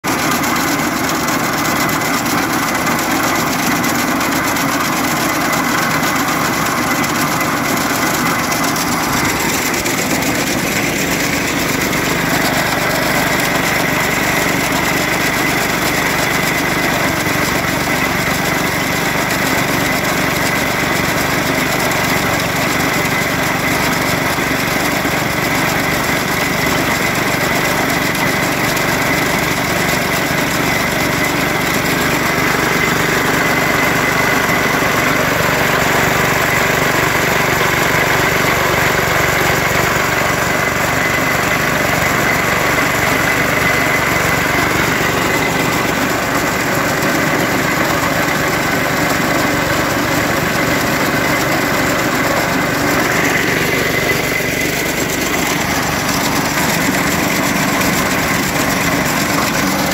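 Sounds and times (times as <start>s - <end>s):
small engine running with whine: 0.0s - 59.9s.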